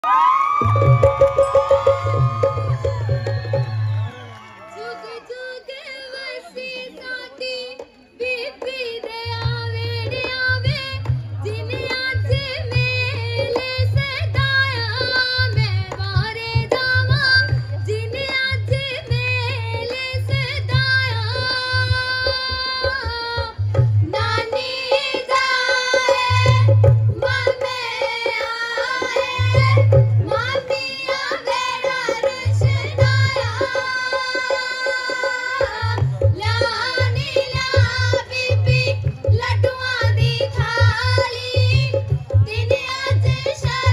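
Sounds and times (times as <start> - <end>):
hand drum beat: 0.6 - 4.1, 8.6 - 43.9
women singing folk songs: 4.7 - 43.9.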